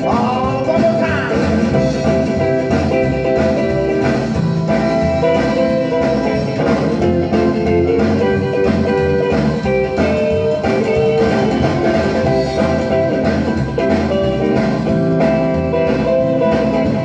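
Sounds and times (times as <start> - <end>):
rock and roll on record player: 0.0 - 17.0.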